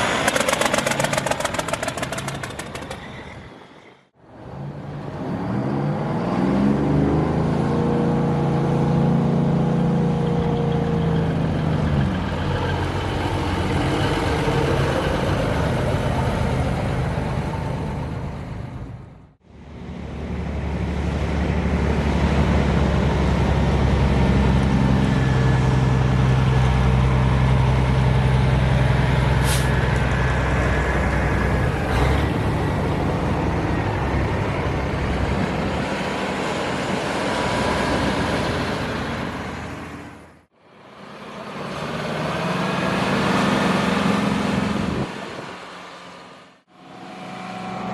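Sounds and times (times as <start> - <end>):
diesel truck engines rumbling: 0.0 - 47.9.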